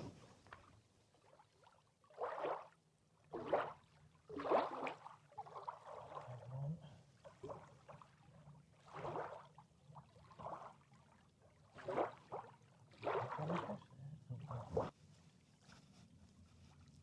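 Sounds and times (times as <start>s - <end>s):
shallow water splashing: 0.0s - 15.7s.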